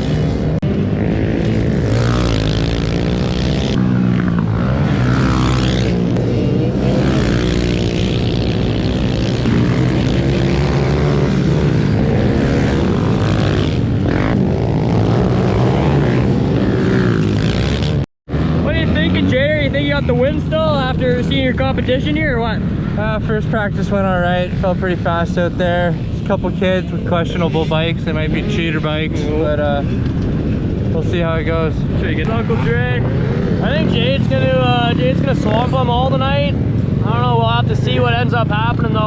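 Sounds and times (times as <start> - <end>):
small motorbike engines revving: 0.0 - 39.0.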